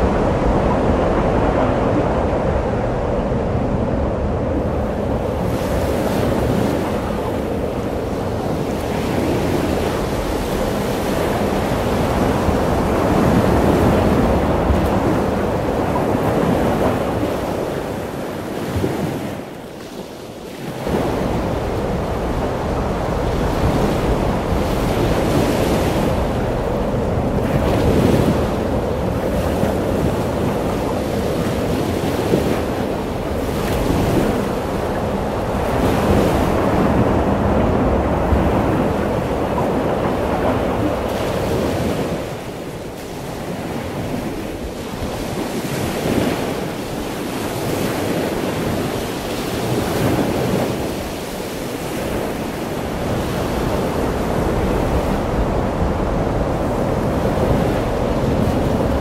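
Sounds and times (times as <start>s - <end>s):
ocean waves breaking: 0.0s - 59.0s
wind buffeting microphone: 0.0s - 59.0s.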